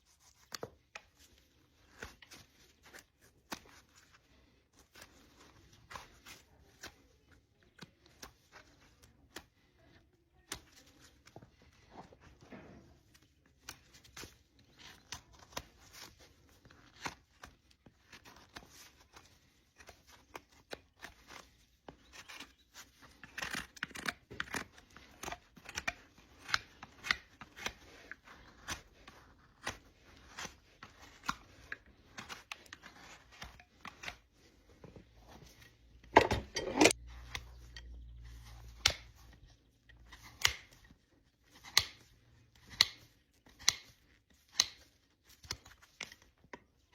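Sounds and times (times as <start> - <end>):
hoof trimming snips and scrapes: 0.0 - 46.9.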